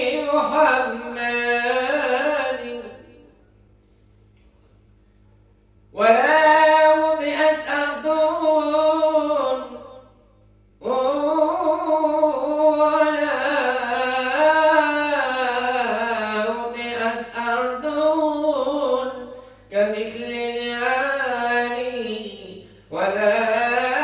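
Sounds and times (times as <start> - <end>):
man singing devotional chant: 0.0 - 3.2, 6.0 - 10.0, 10.8 - 24.0.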